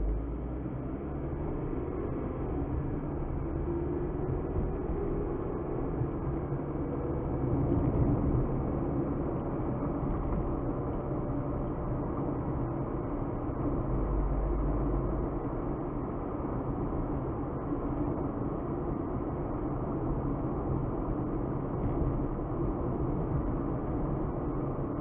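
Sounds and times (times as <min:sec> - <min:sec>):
car engine and tyre noise: 0:00.0 - 0:25.0
deep low rumble: 0:00.0 - 0:25.0.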